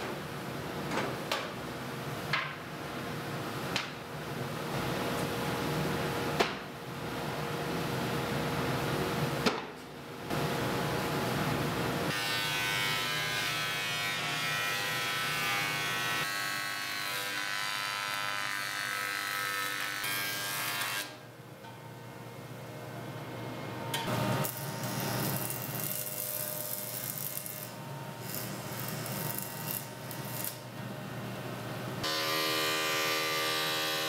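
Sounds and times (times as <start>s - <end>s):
steady shop noise: 0.0s - 34.0s.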